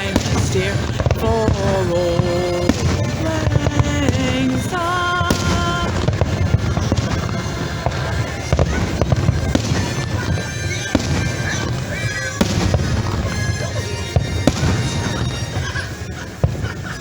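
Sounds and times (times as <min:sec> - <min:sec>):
fireworks popping: 0:00.0 - 0:17.0
music playing: 0:00.0 - 0:17.0.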